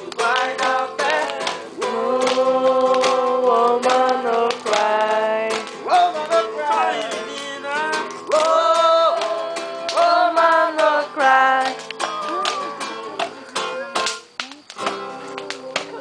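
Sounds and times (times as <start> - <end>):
group singing: 0.0 - 14.1
strummed acoustic guitar: 0.0 - 16.0.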